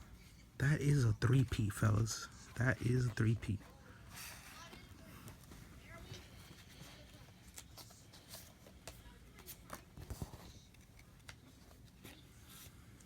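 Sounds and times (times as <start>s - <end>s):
trading cards rustling: 0.2s - 13.0s.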